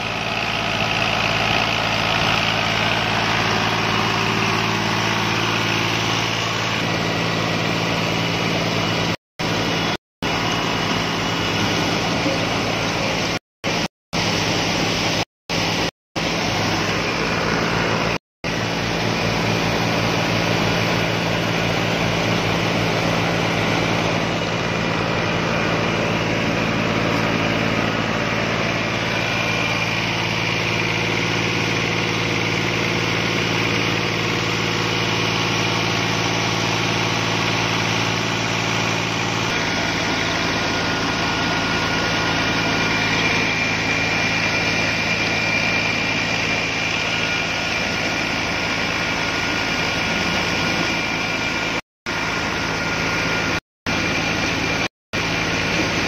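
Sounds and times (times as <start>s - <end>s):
thresher mechanical drone: 0.0s - 56.0s.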